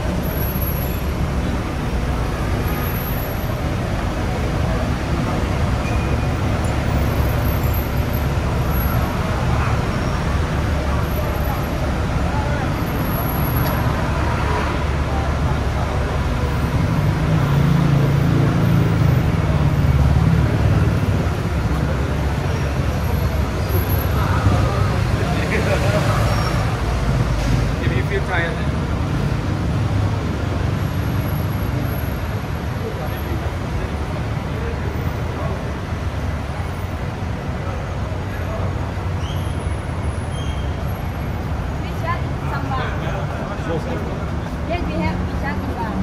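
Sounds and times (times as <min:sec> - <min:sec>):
city road traffic: 0:00.0 - 0:46.0
vehicle engine humming: 0:00.0 - 0:46.0.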